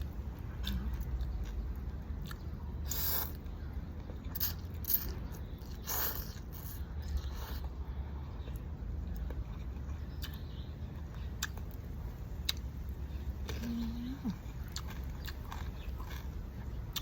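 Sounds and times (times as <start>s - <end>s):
person chewing noodle soup: 0.0s - 7.7s, 8.4s - 17.0s
low steady hum: 0.0s - 17.0s.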